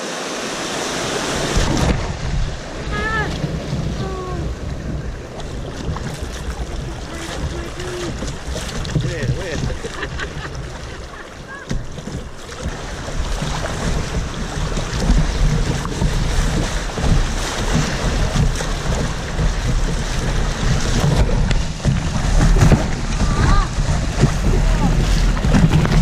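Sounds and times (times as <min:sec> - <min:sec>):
rushing rapids water: 0:00.0 - 0:26.0
wind buffeting microphone: 0:01.0 - 0:26.0.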